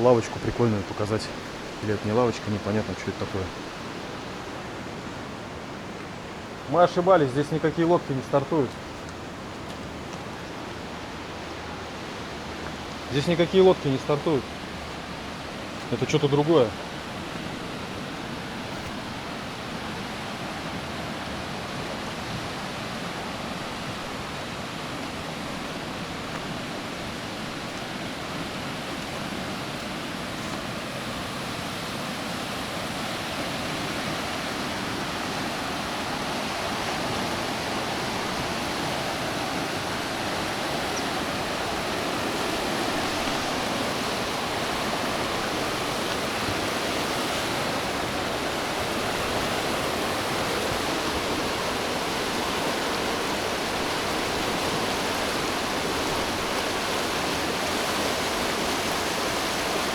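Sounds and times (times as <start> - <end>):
river rushing and churning: 0.0 - 59.9.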